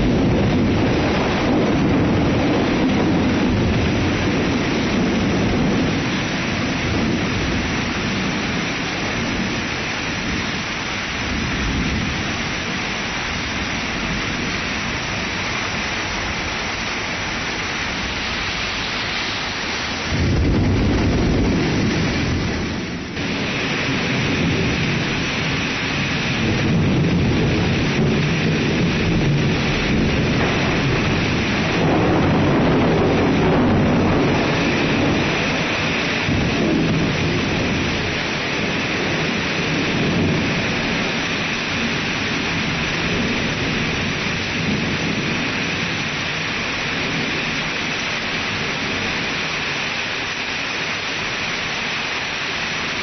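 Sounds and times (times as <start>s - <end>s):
rain hiss: 0.0s - 53.0s
thunder rumble: 0.0s - 53.0s.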